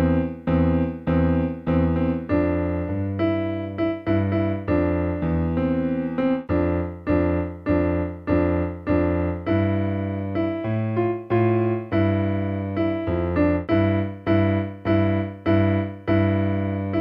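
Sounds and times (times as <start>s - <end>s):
electronic keyboard notes: 0.0s - 17.0s.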